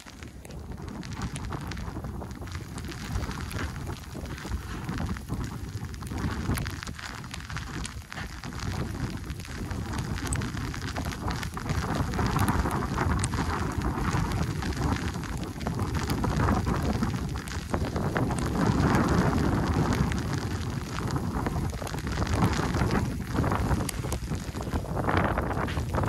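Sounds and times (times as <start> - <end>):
sleet pattering: 0.0 - 26.0
wind buffeting microphone: 0.0 - 26.0.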